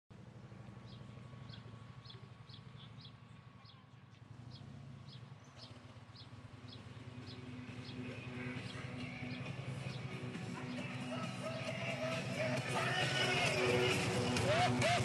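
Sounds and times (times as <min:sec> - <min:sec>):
motorcycle engine rumble: 0:00.1 - 0:15.0
bird chirping: 0:00.8 - 0:15.0.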